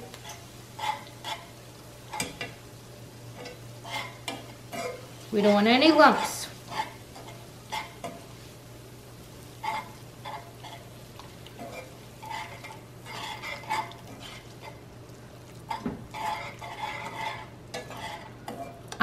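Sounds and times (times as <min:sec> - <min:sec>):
low sizzle from pan: 0:00.0 - 0:19.0
wire whisk scraping a skillet: 0:00.1 - 0:02.6, 0:03.4 - 0:08.5, 0:09.6 - 0:14.8, 0:15.7 - 0:19.0.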